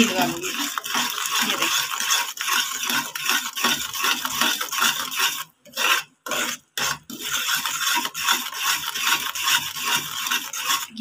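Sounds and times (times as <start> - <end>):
metal spoon scraping pan: 0.0 - 11.0
syrup bubbling: 0.0 - 11.0.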